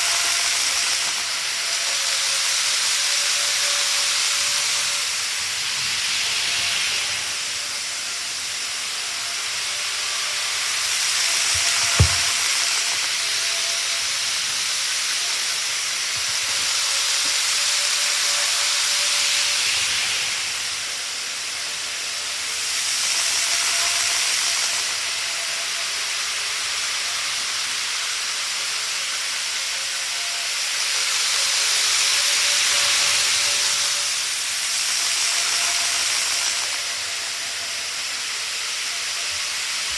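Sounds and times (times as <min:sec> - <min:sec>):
faint motor whine: 0:00.0 - 0:39.9
model train rumbling on track: 0:00.0 - 0:39.9.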